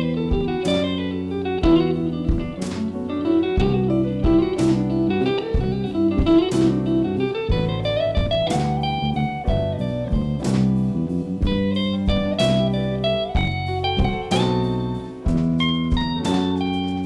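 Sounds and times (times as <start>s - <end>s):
jazz combo playing: 0.0s - 17.0s.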